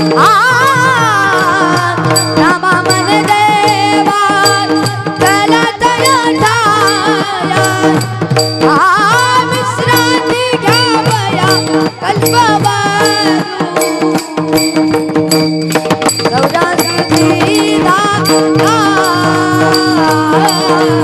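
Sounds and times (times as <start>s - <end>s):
boy singing: 0.0s - 15.0s, 16.2s - 21.0s
drum and cymbal strokes: 0.0s - 21.0s.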